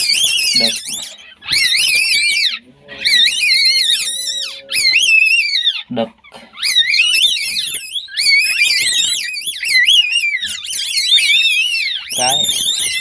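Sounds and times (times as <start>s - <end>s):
baby animals squealing: 0.0s - 13.0s.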